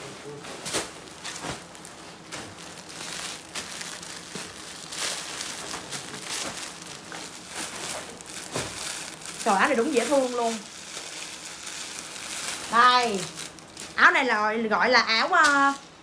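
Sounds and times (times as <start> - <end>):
plastic bag crinkling: 0.8 - 15.9.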